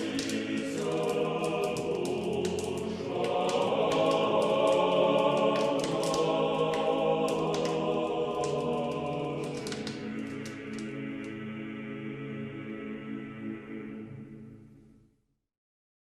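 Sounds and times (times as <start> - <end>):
choir singing sustained chords: 0.0 - 15.1.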